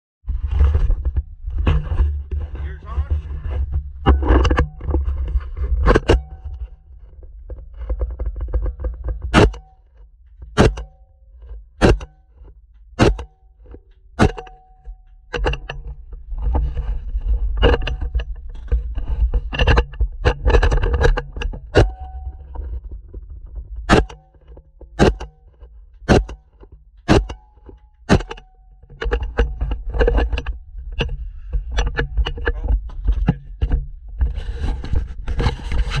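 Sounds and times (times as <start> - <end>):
camera handling knocks and scrapes: 3.2 - 11.0, 11.8 - 12.3, 15.3 - 36.0.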